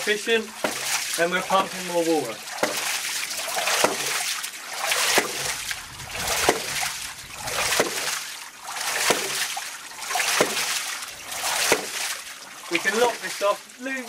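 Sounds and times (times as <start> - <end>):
water rushing from exhaust: 0.0 - 14.0.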